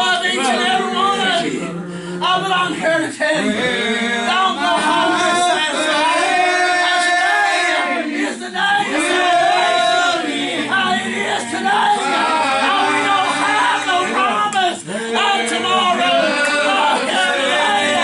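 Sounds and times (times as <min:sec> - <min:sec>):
congregation singing: 0:00.0 - 0:18.0.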